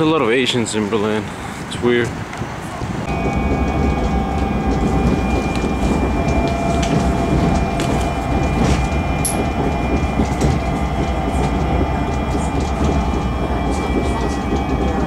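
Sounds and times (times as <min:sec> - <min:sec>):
train rumbling on rails: 0:00.0 - 0:15.0
faint whine: 0:02.7 - 0:15.0.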